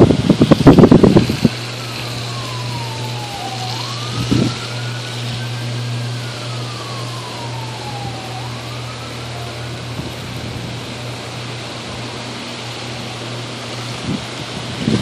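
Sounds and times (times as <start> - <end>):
distant siren wailing: 0.0 - 14.8
steady low hum: 0.0 - 15.0.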